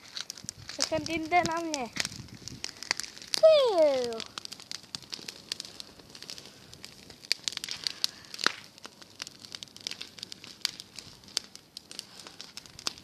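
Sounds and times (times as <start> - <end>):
dry grass burning crackling: 0.0 - 13.0.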